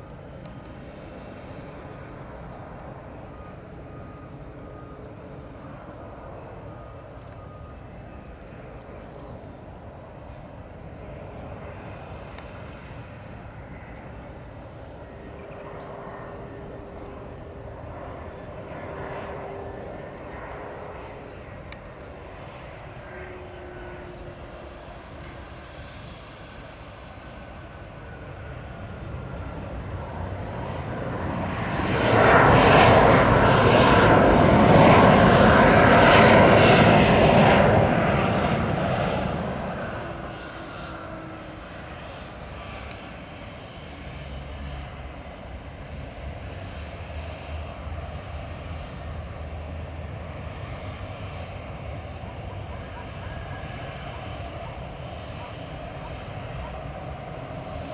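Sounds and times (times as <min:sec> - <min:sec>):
jet engine noise passing: 0:00.0 - 0:57.9.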